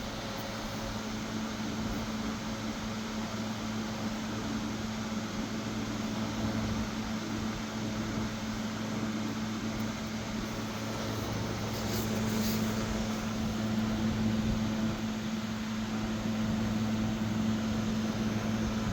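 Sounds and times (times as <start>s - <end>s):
machine hum with hiss: 0.0s - 18.9s.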